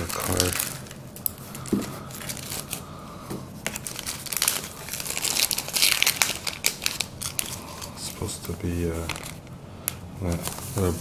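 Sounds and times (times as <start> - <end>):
plastic wrapper crinkling and tearing: 0.0 - 2.9, 3.6 - 11.0.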